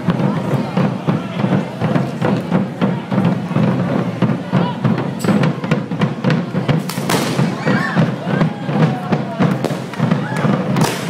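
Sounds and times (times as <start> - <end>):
drums beating fast rhythm: 0.0 - 11.0.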